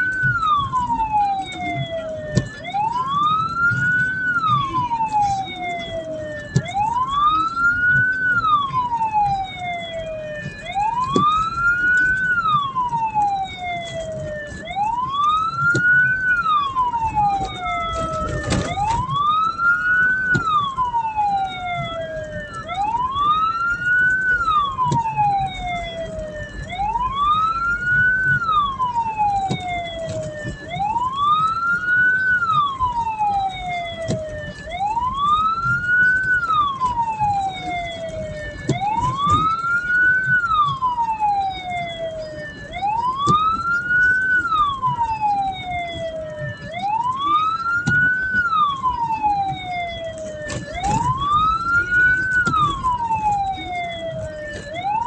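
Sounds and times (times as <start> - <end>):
fainter higher siren: 0.0 - 55.0
siren wailing: 0.0 - 55.0
vehicle rumbling: 0.0 - 55.0.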